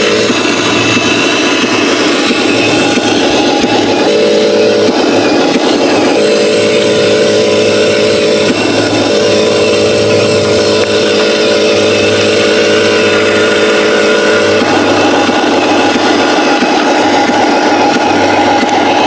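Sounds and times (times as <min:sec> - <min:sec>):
truck engine drone: 0:00.0 - 0:19.0.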